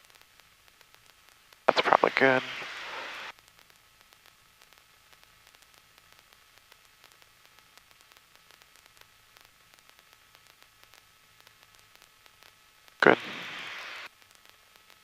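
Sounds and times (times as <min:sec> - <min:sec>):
faint static hiss with crackles: 0:00.0 - 0:15.0.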